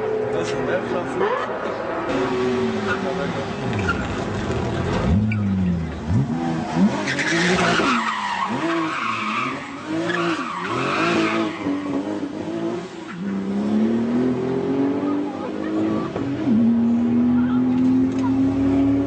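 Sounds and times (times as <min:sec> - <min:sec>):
car engine revving: 0:00.4 - 0:19.0.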